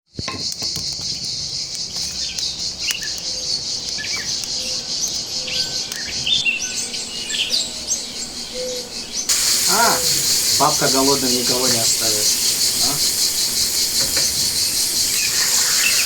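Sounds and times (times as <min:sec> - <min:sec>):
insects droning: 0:00.2 - 0:16.0
birds chirping: 0:00.4 - 0:16.0.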